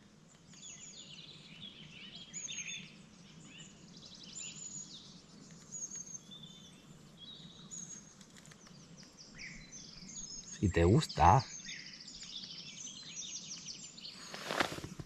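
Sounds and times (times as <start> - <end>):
birdsong with whistles and trills: 0.4 - 14.9.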